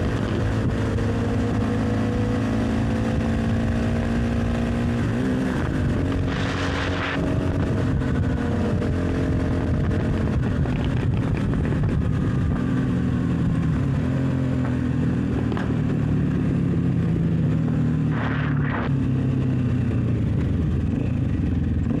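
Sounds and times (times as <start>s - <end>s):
wind rushing over microphone: 0.0s - 13.9s, 15.4s - 19.3s
motorcycle engine running: 0.0s - 22.0s.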